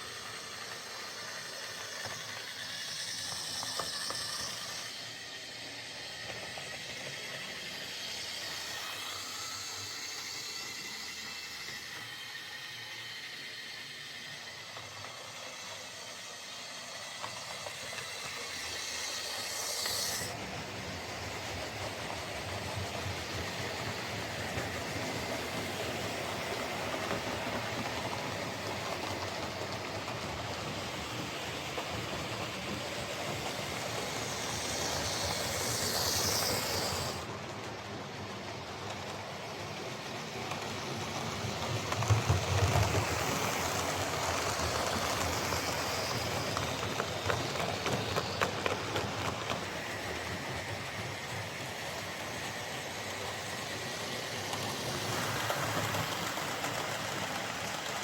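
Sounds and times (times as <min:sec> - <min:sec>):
model train motor whirring: 0:00.0 - 0:58.0.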